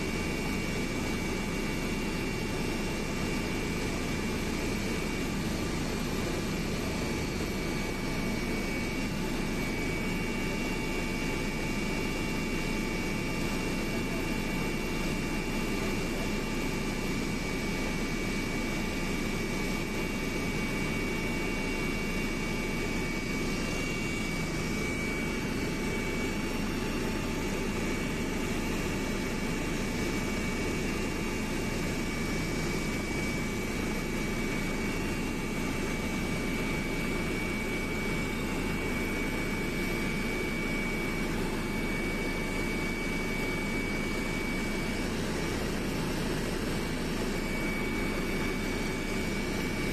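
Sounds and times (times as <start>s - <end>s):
aircraft engine drone: 0.0s - 49.9s
thin steady whines: 0.0s - 49.9s.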